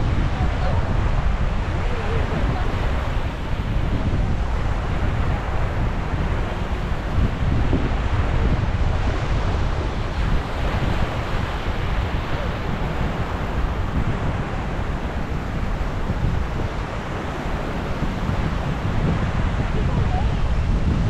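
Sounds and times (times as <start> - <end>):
waves washing onto sandy beach: 0.0 - 21.0
wind buffeting microphone: 0.0 - 21.0.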